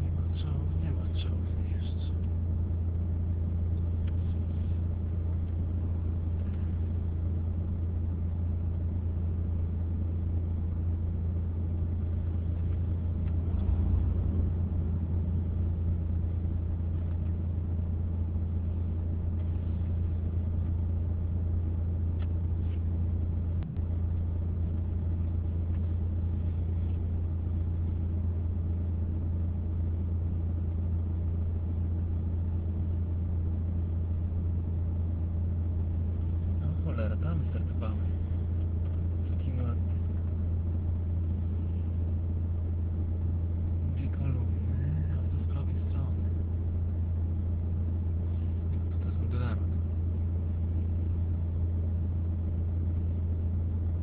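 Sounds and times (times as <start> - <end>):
car interior drone: 0.0 - 54.0.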